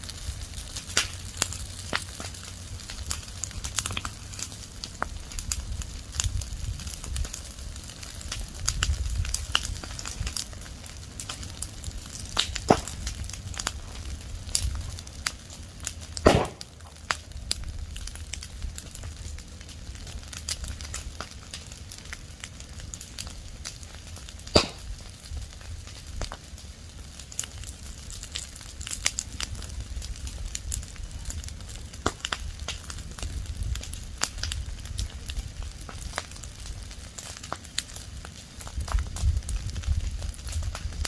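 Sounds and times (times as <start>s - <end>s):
fire crackling and popping: 0.0s - 41.0s.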